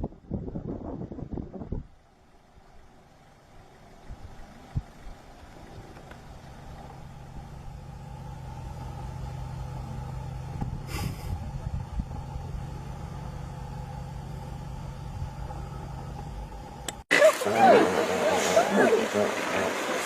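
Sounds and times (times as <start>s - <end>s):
vehicle engine idling: 1.8s - 20.0s.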